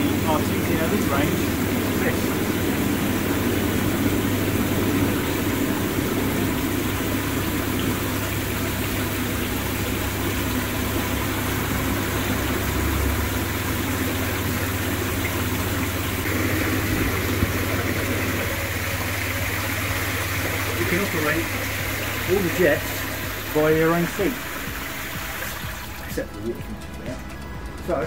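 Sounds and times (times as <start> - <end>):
pump motor hum: 0.0 - 28.0
water churning: 0.0 - 28.0.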